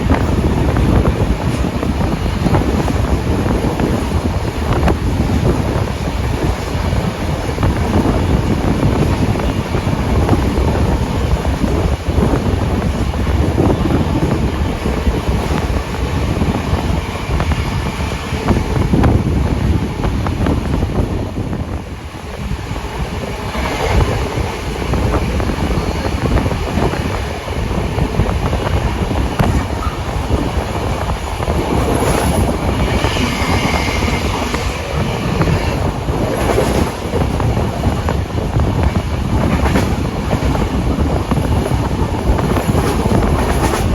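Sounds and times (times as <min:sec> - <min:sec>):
train wheels on track: 0:00.0 - 0:43.9.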